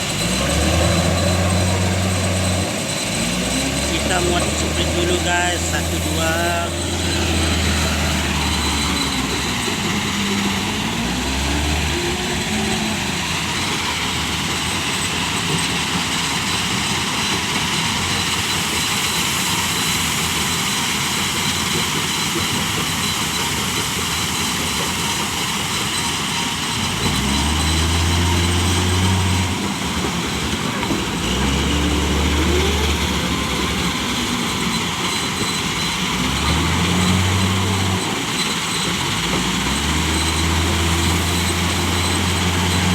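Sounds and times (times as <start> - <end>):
truck engine revving and shifting: 0.0 - 20.5, 24.2 - 42.9.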